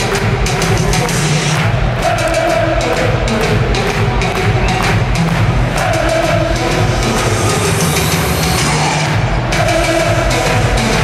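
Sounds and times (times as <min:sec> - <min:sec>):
music with drums: 0:00.0 - 0:11.0.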